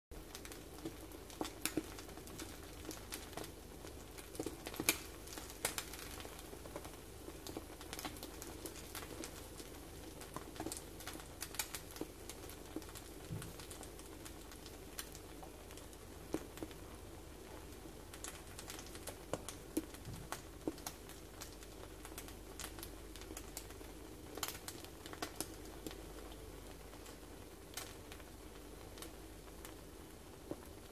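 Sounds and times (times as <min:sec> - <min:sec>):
faint steady hum: 0:00.1 - 0:30.9
omelette crackling and popping: 0:00.1 - 0:30.9.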